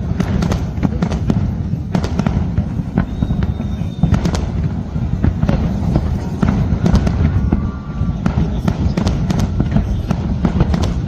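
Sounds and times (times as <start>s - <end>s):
firework cracks and pops: 0.0s - 11.0s
fireworks rumbling: 0.0s - 11.0s.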